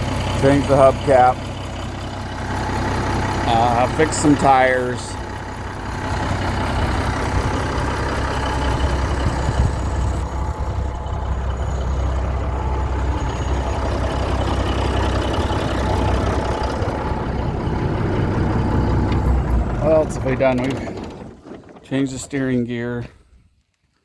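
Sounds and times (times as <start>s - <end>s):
diesel truck engine idling: 0.0s - 23.1s.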